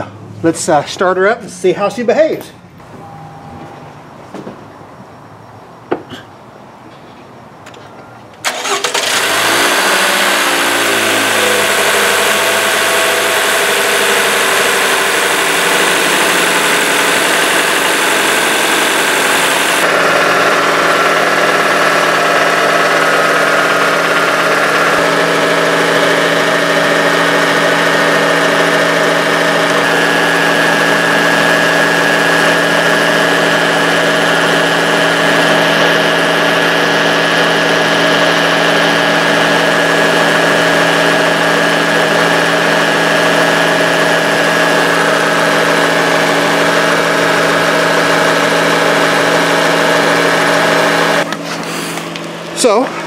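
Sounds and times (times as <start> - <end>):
car engine starting and idling: 8.4 - 51.4.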